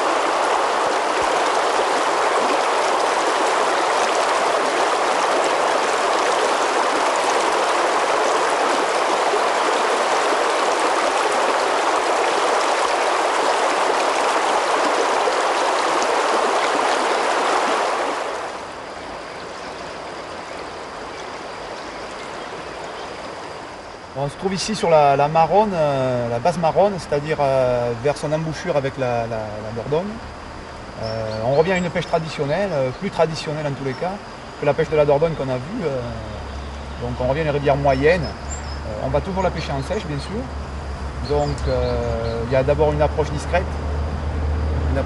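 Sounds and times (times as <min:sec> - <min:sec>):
river water rushing over riffles: 0:00.0 - 0:41.6.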